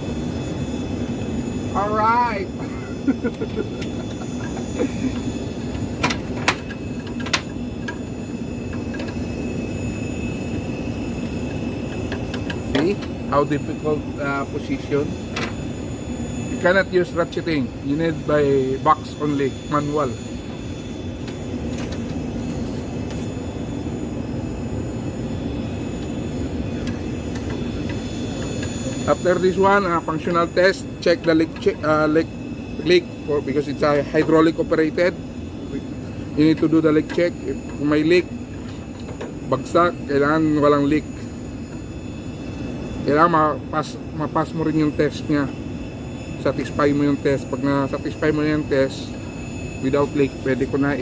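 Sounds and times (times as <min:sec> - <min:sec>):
high whining tones: 0:00.0 - 0:51.0
jet aircraft drone: 0:00.0 - 0:51.0
machine hum: 0:00.0 - 0:51.0.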